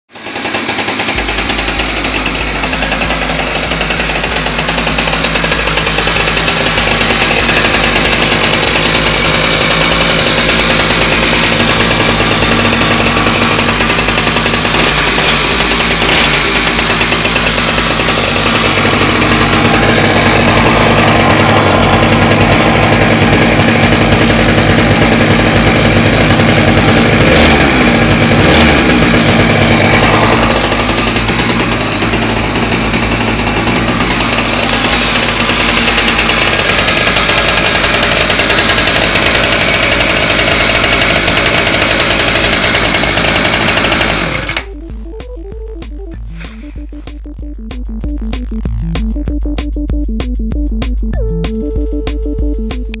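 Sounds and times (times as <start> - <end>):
two-stroke engine buzzing: 0.1 - 53.0.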